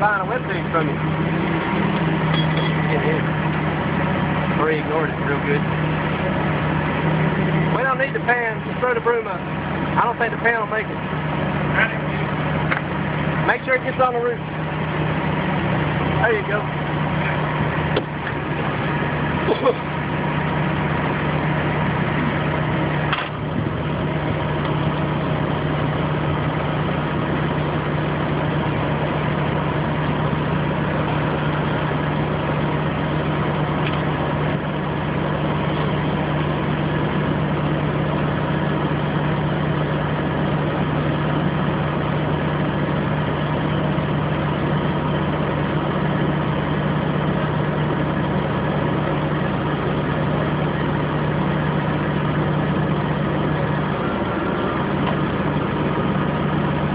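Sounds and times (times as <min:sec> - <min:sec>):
crane engine idling: 0:00.0 - 0:56.9.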